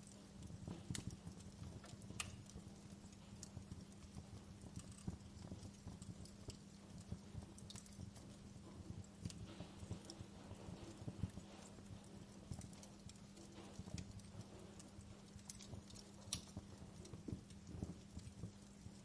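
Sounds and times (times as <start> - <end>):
faint steady hum: 0.0 - 19.0
wood fire crackling: 0.0 - 19.0.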